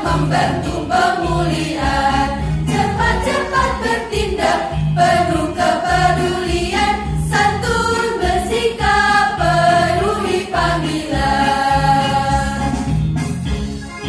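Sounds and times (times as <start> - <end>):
choir singing: 0.0 - 12.9
instrumental backing with beat: 0.0 - 14.0.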